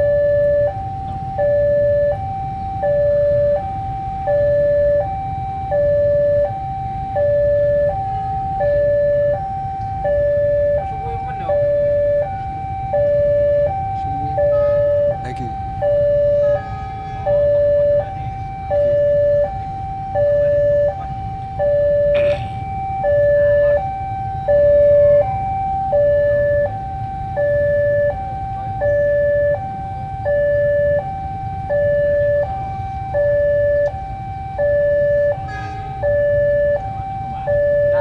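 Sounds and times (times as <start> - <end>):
level-crossing two-tone alarm: 0.0 - 38.0
low rumble of street noise: 0.0 - 38.0.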